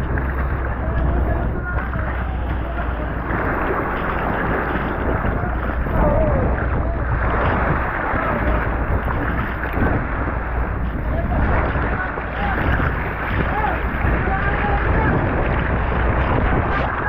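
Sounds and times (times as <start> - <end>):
boat engine low rumble: 0.0 - 17.0
wind and water rushing: 0.0 - 17.0.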